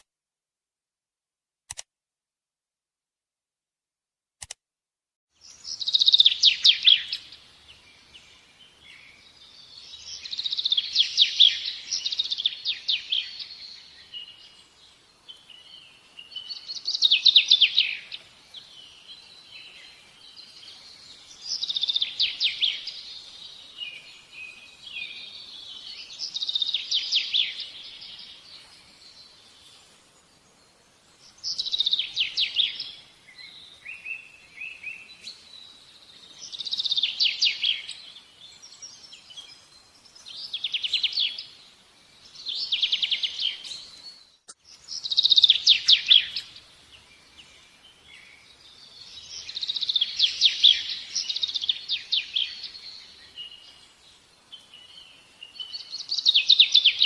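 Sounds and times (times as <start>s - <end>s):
bird singing trilled phrases: 5.4s - 29.6s, 30.3s - 57.0s.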